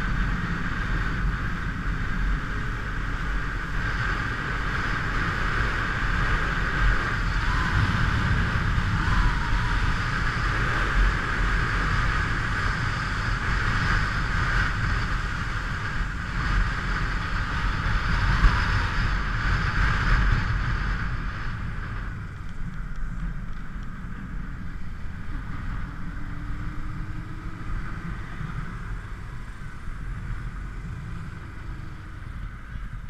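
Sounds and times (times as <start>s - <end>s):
motorcycle engine and road rumble: 0.0s - 33.0s
wind rushing over microphone: 0.0s - 33.0s.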